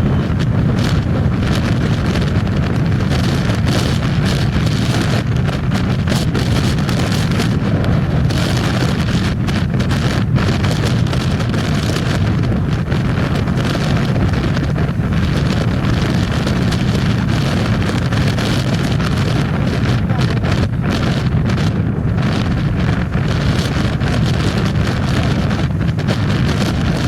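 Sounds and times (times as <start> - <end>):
motorcycle running: 0.0 - 27.0
wind rushing over microphone: 0.0 - 27.0.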